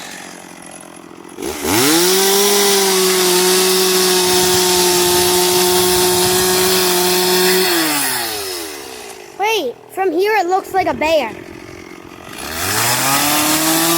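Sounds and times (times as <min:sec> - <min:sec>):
chainsaw revving up: 0:00.0 - 0:13.9.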